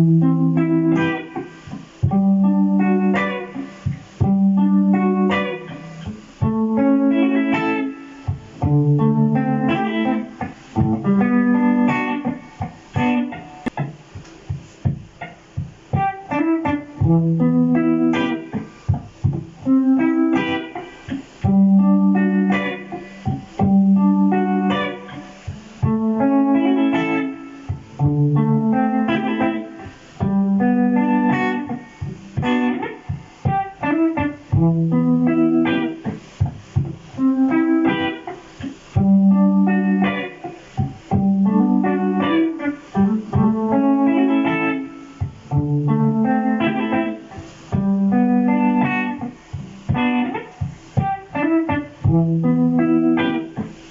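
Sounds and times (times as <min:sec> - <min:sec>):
jazz electric guitar: 0:00.0 - 0:53.9.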